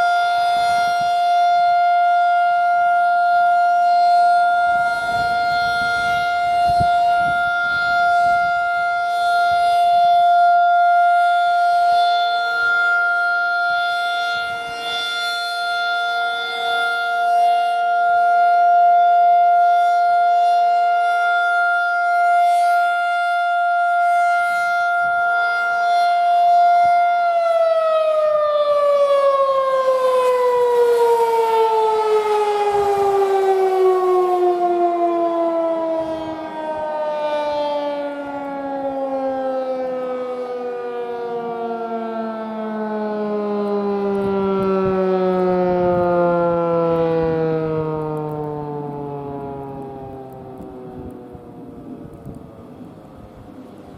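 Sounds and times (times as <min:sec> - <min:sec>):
tornado siren tone: 0:00.0 - 0:53.9.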